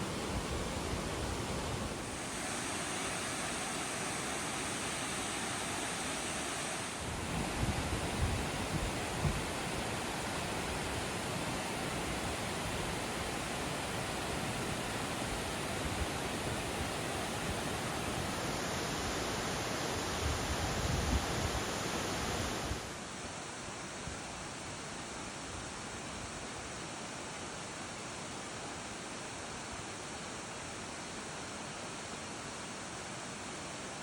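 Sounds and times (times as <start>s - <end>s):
rushing flowing water: 0.0s - 34.0s.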